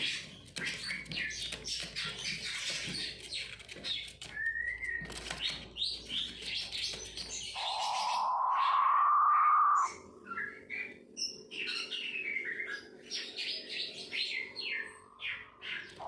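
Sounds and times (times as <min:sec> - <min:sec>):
quail chirps and whistle: 0:00.0 - 0:13.4.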